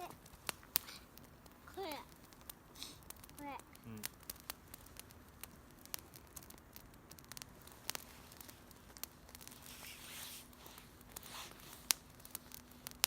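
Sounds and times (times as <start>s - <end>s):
campfire crackling: 0.0s - 13.0s
sharp pops of fire: 0.0s - 13.0s.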